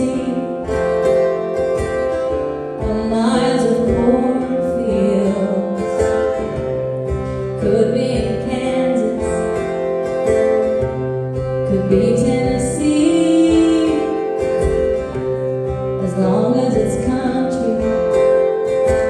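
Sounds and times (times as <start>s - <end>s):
acoustic guitar strumming: 0.0s - 19.0s
held melody line: 0.0s - 19.0s.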